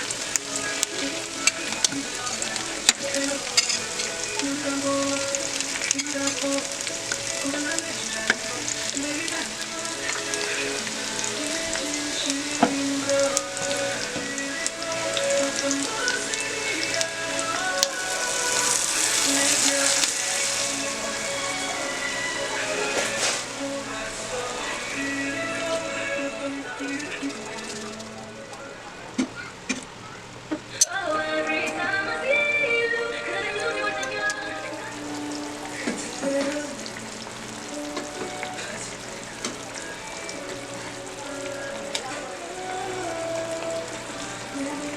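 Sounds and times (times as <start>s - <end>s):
pork sizzling in a pan: 0.0s - 28.2s, 34.6s - 44.9s
background music: 0.0s - 29.2s, 30.6s - 44.9s.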